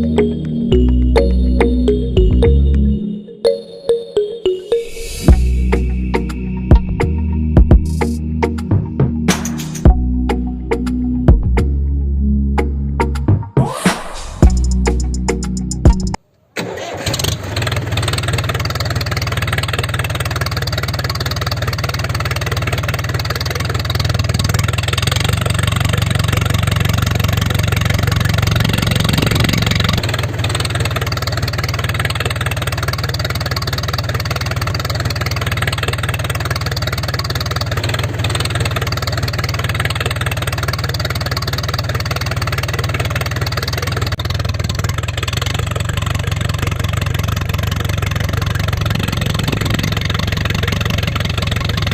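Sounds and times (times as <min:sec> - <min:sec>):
engine idling: 0:05.0 - 0:13.2, 0:14.2 - 0:51.9.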